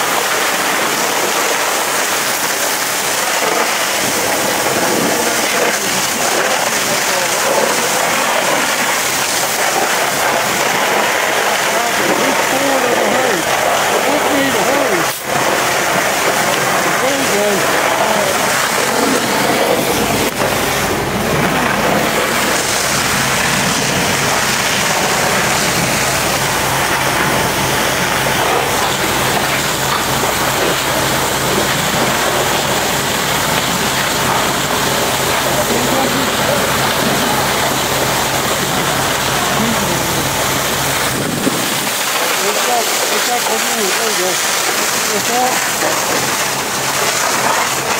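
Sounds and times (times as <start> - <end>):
fire engines humming: 0.0 - 47.9
fire hoses spraying water: 0.0 - 47.9.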